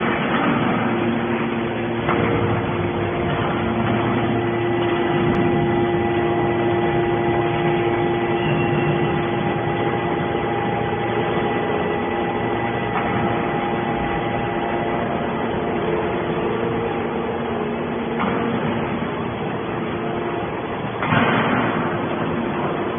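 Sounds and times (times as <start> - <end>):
constant machine whine: 0.0 - 22.9
machine hum: 0.0 - 22.9.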